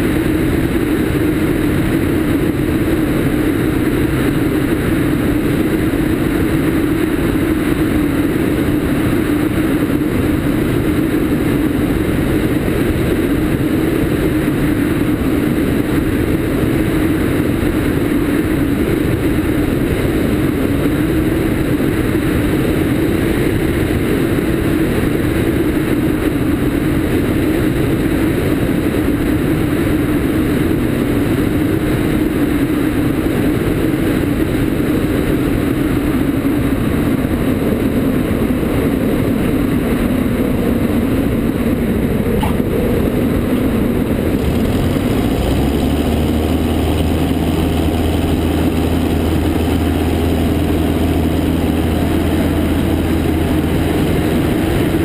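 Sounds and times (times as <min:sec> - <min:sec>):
airplane engine and propeller: 0:00.0 - 0:55.0
wind rushing over camera: 0:00.0 - 0:55.0.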